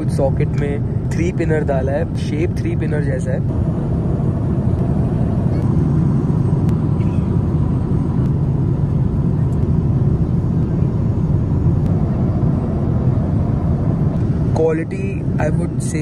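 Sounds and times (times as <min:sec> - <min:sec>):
airliner cabin noise: 0:00.0 - 0:16.0.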